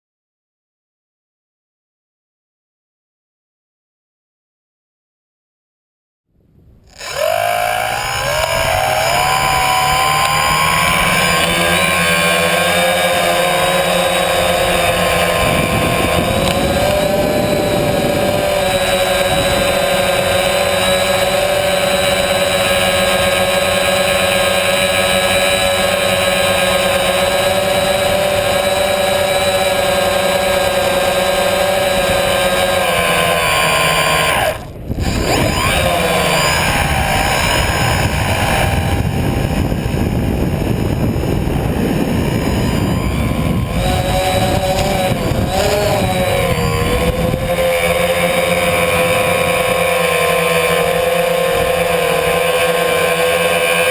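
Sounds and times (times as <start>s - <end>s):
drone motors whining: 6.9s - 53.9s.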